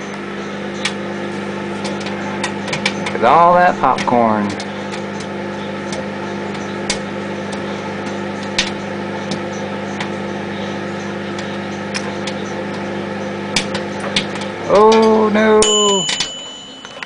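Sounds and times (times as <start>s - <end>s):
microwave oven humming: 0.0s - 17.0s
popcorn popping: 0.0s - 17.0s.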